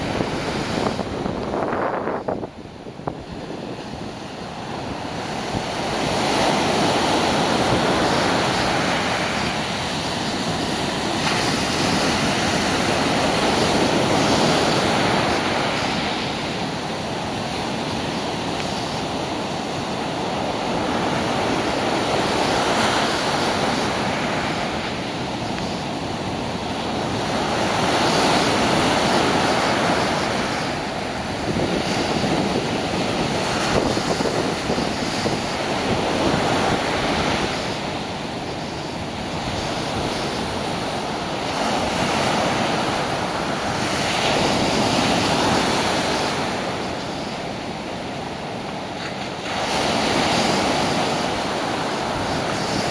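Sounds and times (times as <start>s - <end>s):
surf breaking on beach: 0.0s - 52.9s.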